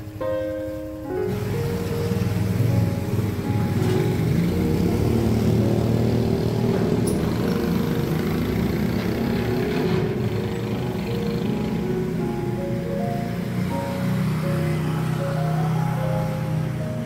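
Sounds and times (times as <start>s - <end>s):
motorcycles passing: 0.0s - 17.0s.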